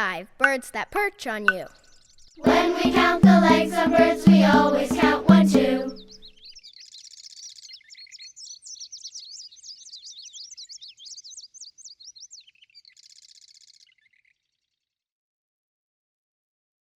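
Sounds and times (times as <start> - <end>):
songbird singing: 0.0 - 14.4.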